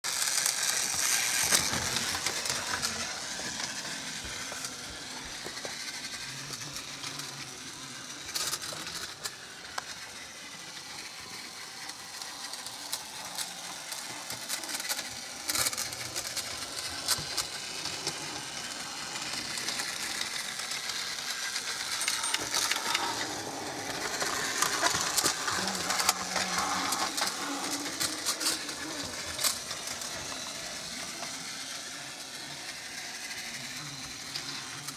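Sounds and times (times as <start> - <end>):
plastic wheels clicking on track: 0.1 - 34.9
toy train motor whirring: 0.1 - 34.9.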